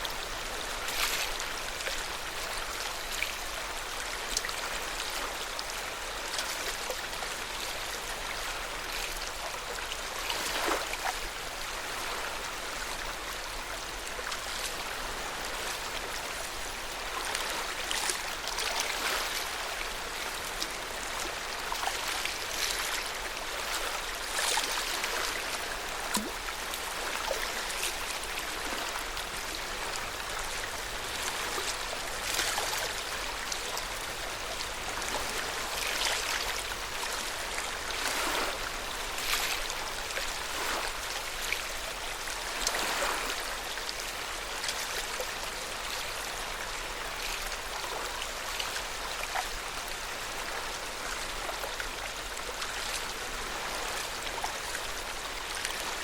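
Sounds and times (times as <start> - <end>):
lake water washing: 0.0 - 56.0
water splashes and trickles: 0.0 - 56.0.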